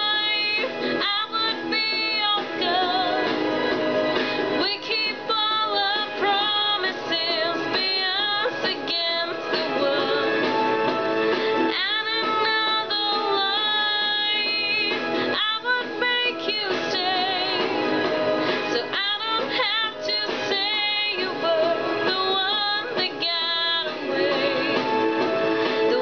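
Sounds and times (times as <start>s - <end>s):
woman singing pop ballad: 0.0s - 3.8s, 4.4s - 26.0s
instrumental accompaniment: 0.0s - 26.0s.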